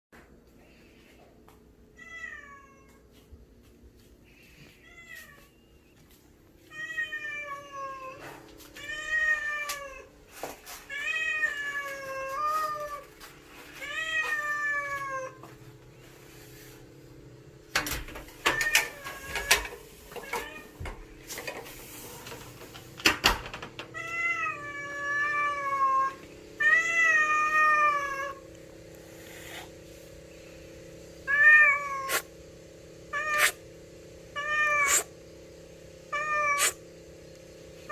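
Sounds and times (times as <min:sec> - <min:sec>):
steady low hum: 0:00.2 - 0:37.9.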